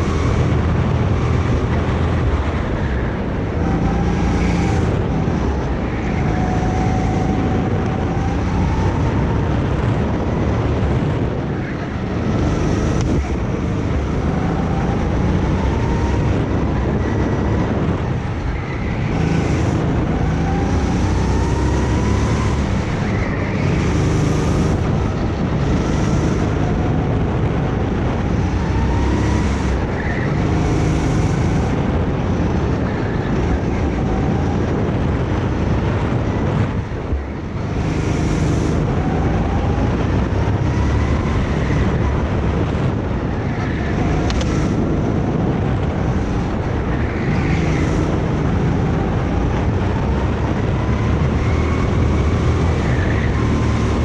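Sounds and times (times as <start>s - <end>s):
go-kart engine accelerating: 0.0s - 54.0s.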